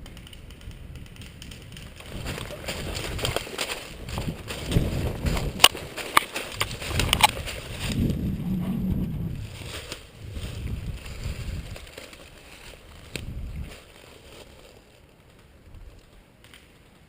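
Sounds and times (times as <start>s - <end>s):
rustling and crunching through brush: 0.1s - 17.0s.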